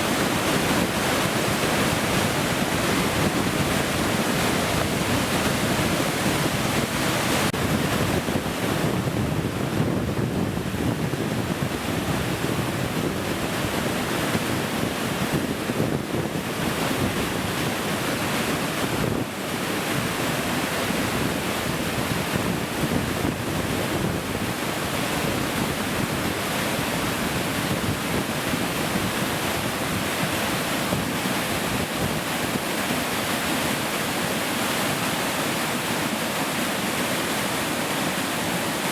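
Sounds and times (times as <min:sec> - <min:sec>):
fast water roaring in creek: 0:00.0 - 0:38.9.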